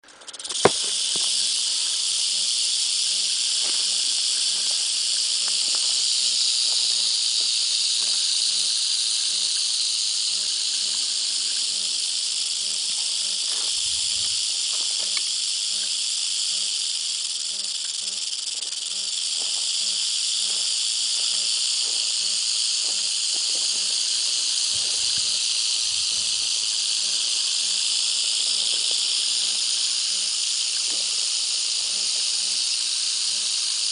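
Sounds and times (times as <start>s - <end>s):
rattlesnake tail rattle buzzing: 0.0s - 33.9s.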